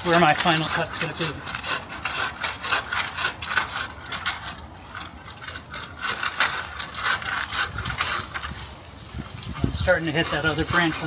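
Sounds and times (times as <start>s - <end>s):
pole saw rasping through branch: 0.0s - 11.0s.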